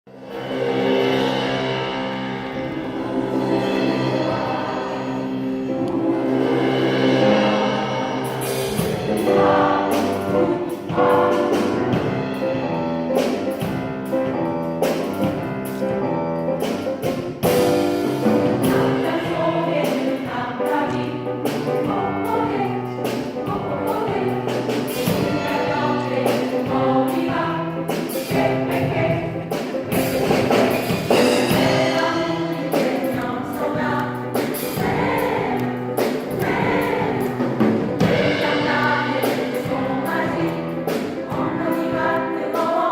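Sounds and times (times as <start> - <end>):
musical accompaniment: 0.1 - 42.9
choir singing: 0.2 - 15.2, 17.6 - 42.9.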